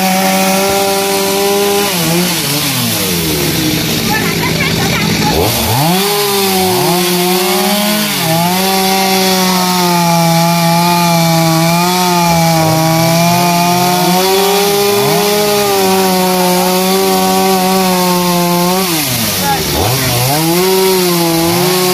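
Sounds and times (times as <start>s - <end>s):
chainsaw cutting logs: 0.0s - 21.9s.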